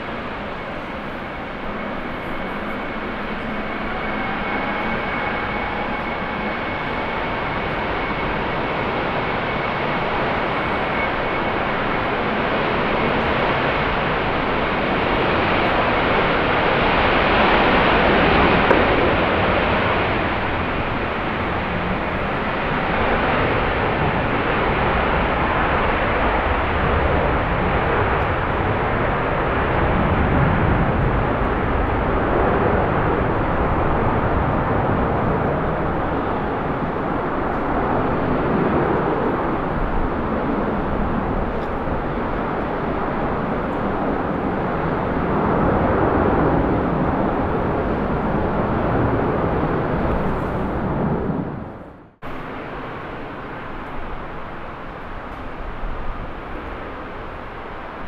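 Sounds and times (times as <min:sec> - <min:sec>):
jet engine roar: 0:00.0 - 0:58.0
wind buffeting microphone: 0:00.0 - 0:58.0.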